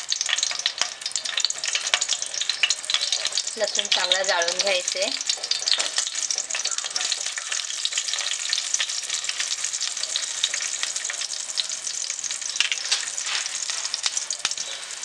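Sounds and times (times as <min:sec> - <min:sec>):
garlic sizzling in hot oil: 0:00.0 - 0:15.0
spatula stirring in a pan: 0:00.0 - 0:15.0.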